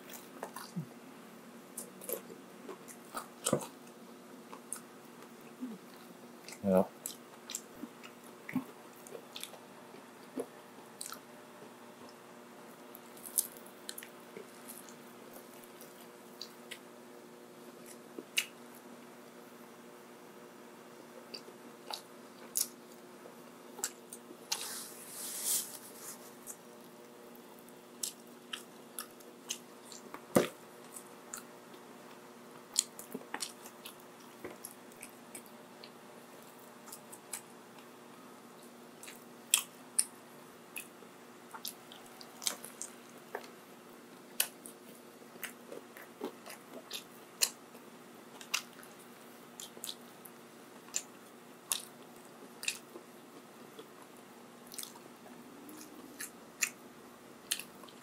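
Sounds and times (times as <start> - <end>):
person chewing food: 0.0 - 0.9, 1.8 - 12.2, 12.9 - 16.9, 21.2 - 37.9, 38.5 - 56.8, 57.4 - 58.0
faint steady hum: 0.0 - 58.0.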